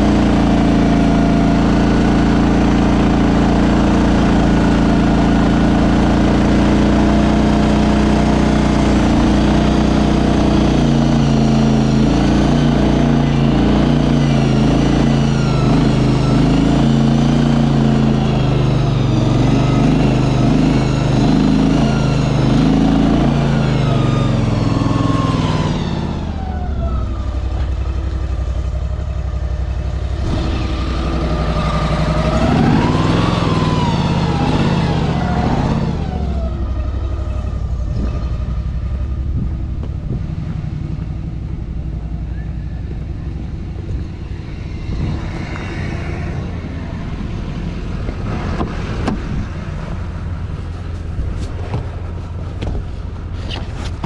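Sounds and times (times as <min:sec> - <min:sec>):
hydraulic drive whine: 0:00.0 - 0:54.0
small engine running under load: 0:00.0 - 0:54.0.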